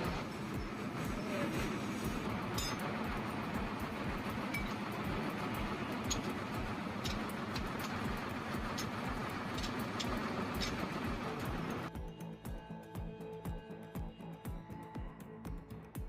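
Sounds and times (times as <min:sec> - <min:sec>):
engine running with low rumble: 0:00.0 - 0:16.0.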